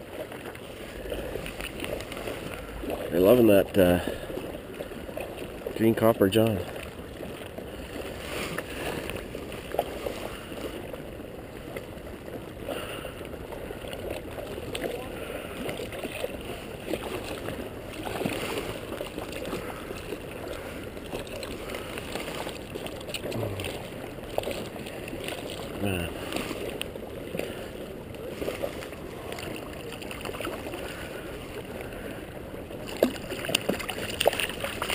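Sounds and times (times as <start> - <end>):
river water rippling and lapping: 0.0 - 34.9
small water splashes: 0.0 - 34.9.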